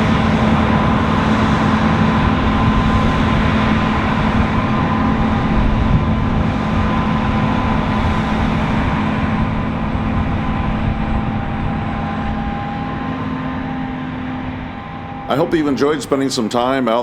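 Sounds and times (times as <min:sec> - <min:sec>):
diesel farm machinery drone: 0:00.0 - 0:17.0
high mechanical whine: 0:00.0 - 0:17.0.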